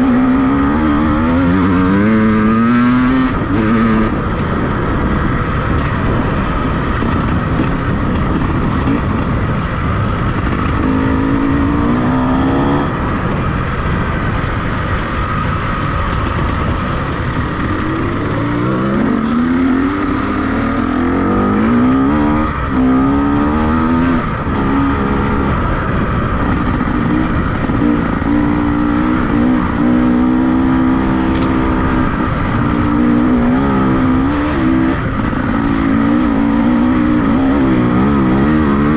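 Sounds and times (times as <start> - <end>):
vehicle engine under load: 0.0 - 38.9
heavy ride noise: 3.3 - 38.9.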